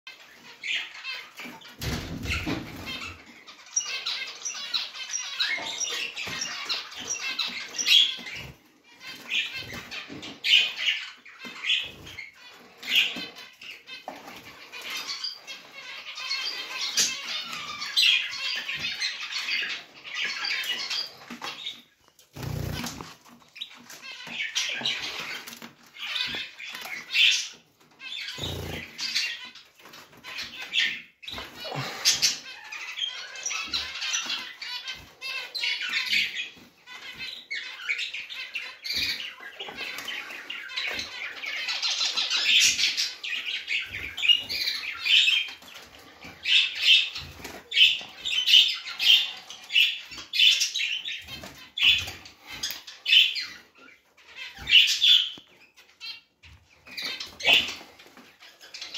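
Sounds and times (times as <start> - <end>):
finches chirping: 0.1 - 58.9.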